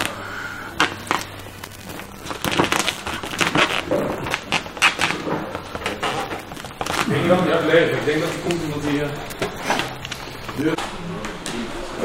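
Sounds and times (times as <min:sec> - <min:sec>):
vinyl film crackling: 0:00.0 - 0:10.8.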